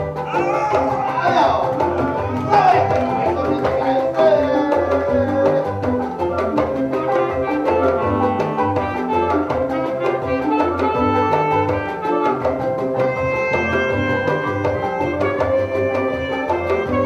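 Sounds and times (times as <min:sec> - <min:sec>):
plucked bow harp: 0:00.0 - 0:17.0.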